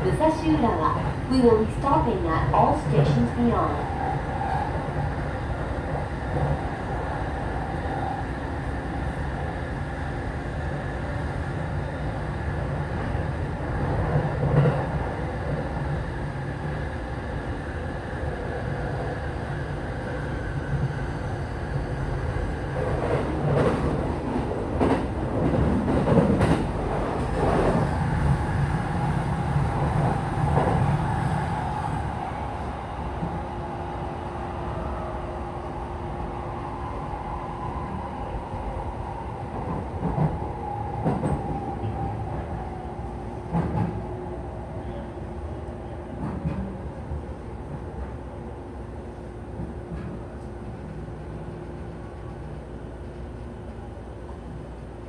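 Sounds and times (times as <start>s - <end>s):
train wheels rumbling on rails: 0.0s - 35.1s, 36.9s - 45.0s, 46.0s - 48.2s.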